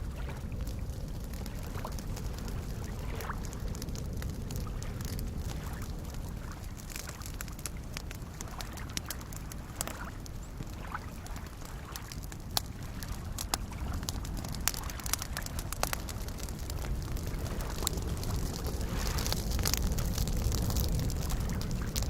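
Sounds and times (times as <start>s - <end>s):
campfire crackling and popping: 0.0s - 22.0s
lake waves lapping: 0.1s - 0.9s, 1.5s - 22.0s.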